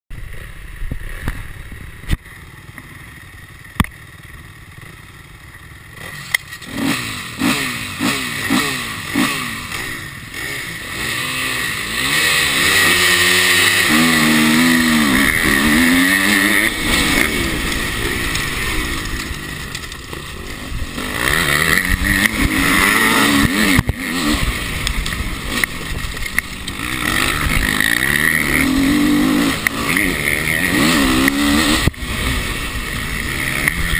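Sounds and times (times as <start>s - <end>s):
dirt bike engine revving: 4.6s - 33.9s.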